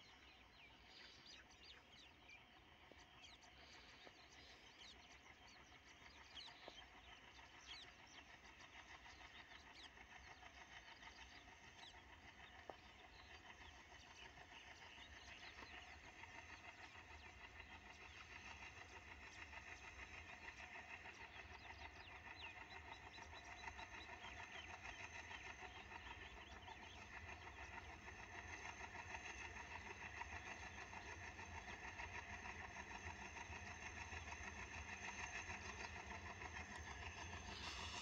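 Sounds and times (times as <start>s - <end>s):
distant locomotive drone: 0.0s - 38.0s.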